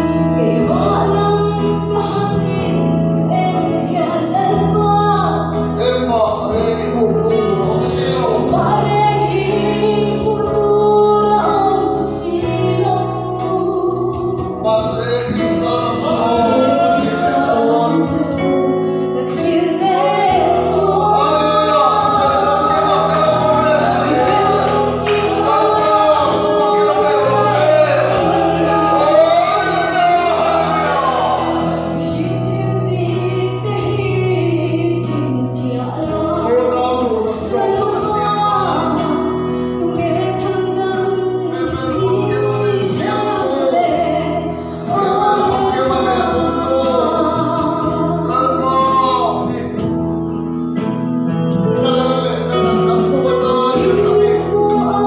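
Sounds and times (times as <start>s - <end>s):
woman singing a hymn: 0.0s - 5.7s, 7.0s - 14.7s, 15.6s - 48.4s, 53.4s - 55.0s
accompaniment holding low notes: 0.0s - 55.0s.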